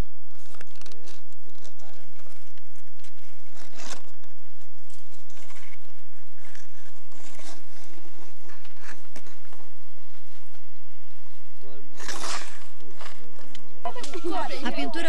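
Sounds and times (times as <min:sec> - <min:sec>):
steady hum: 0:00.0 - 0:15.0
rustling and scraping: 0:00.3 - 0:10.7, 0:11.9 - 0:14.6.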